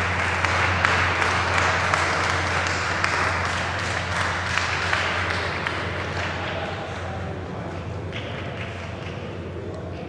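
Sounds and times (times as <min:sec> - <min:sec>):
group applauding: 0:00.0 - 0:09.9.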